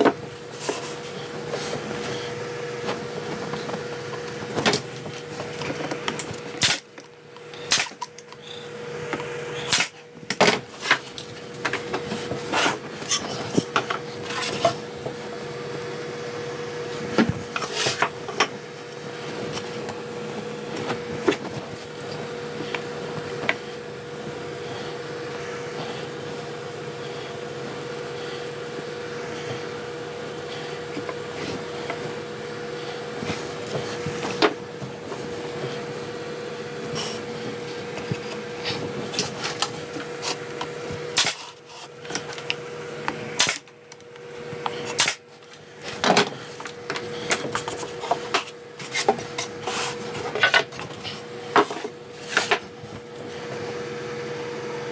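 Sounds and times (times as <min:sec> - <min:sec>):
steady machine hum: 0:00.0 - 0:54.9.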